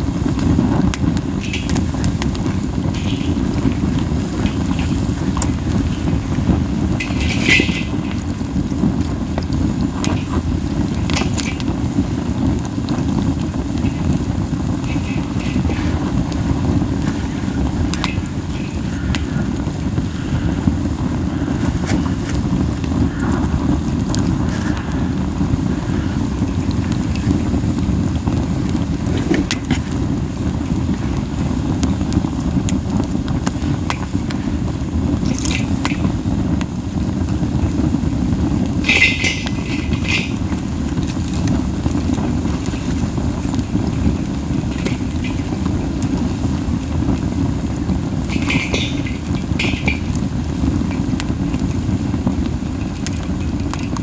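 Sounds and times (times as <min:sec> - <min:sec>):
flame rumbling in wind: 0:00.0 - 0:54.0
pine cones crackling and popping: 0:00.0 - 0:54.0.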